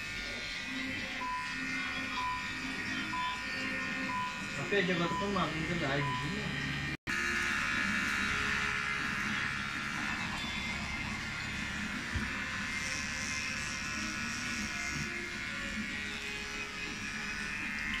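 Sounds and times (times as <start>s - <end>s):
hair dryer blowing: 1.9s - 18.0s.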